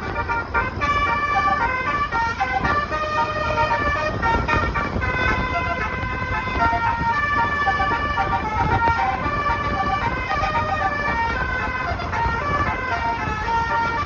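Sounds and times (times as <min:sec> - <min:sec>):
low rumbling noise: 0:00.0 - 0:14.0
musical bus horn: 0:00.0 - 0:14.0.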